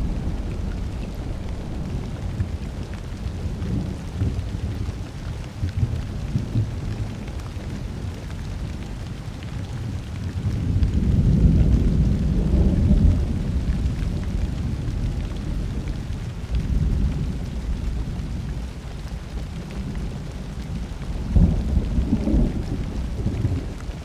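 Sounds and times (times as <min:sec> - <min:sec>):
low thunder roll: 0:00.0 - 0:08.0, 0:10.0 - 0:24.0
steady rain: 0:00.0 - 0:24.0.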